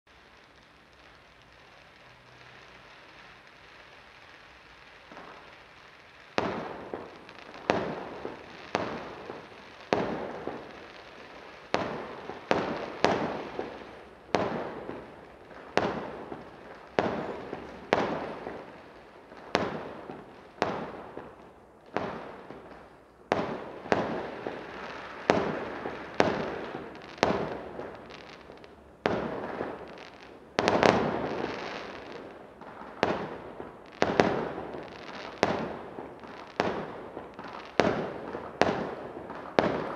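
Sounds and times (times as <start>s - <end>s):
fireworks bursting: 0.1s - 39.9s.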